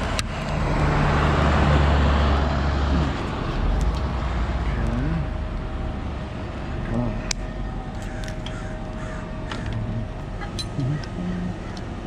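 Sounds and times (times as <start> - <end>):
truck engine and hydraulics hum: 0.0 - 12.0.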